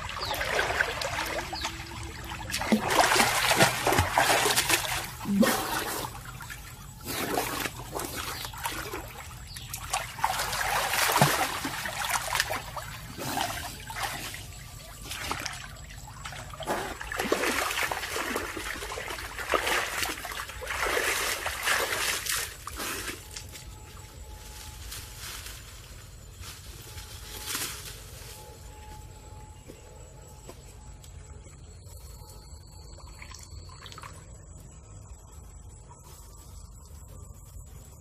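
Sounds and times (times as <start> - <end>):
water splashing and trickling: 0.0 - 27.4, 31.1 - 35.2.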